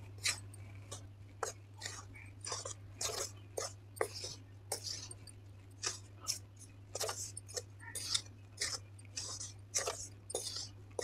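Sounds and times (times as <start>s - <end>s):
wooden spatula scraping metal pan: 1.4s - 5.2s, 5.8s - 11.0s.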